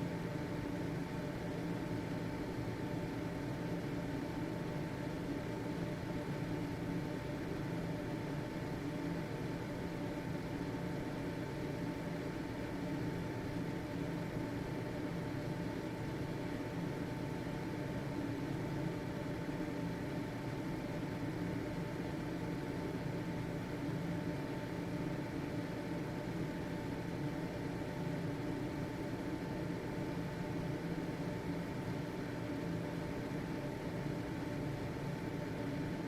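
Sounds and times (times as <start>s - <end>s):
exhaust fan running: 0.0s - 36.0s.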